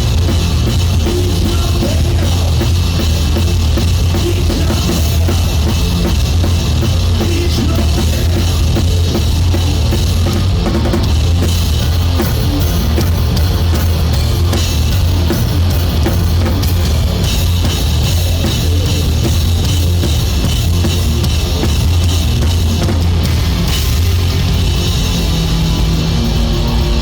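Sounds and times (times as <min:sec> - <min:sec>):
drum and cymbal hits: 0:00.0 - 0:27.0
live rock band playing: 0:00.0 - 0:27.0.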